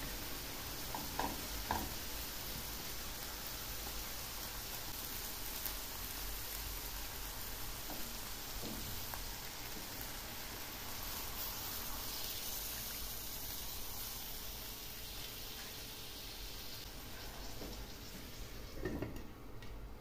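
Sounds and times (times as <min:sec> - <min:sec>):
meat sizzling in a frying pan: 0:00.0 - 0:19.1.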